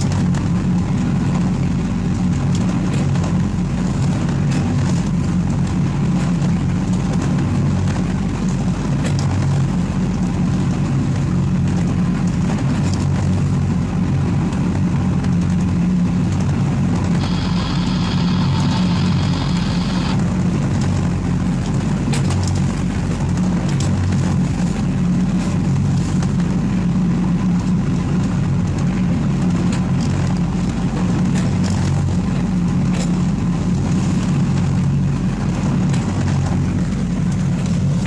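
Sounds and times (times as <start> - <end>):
boat engine running steadily: 0.0 - 38.0
wind and water rushing: 0.0 - 38.0.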